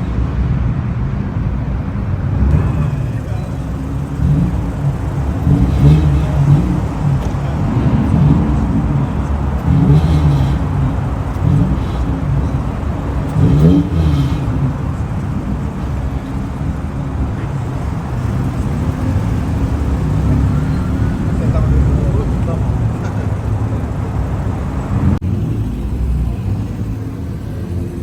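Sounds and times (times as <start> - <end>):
car engines running loudly: 0.0 - 28.0.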